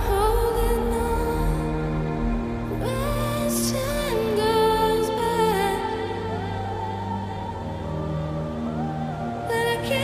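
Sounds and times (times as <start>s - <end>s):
slow melodic background music: 0.0s - 10.0s.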